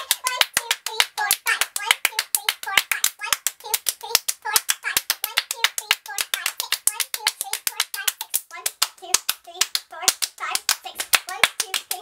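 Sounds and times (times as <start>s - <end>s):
hand clapping game claps: 0.0s - 12.0s.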